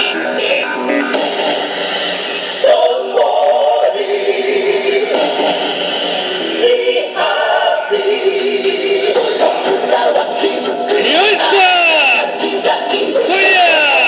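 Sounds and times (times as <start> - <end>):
group of voices singing: 0.0 - 14.0
loud dance music: 0.0 - 14.0.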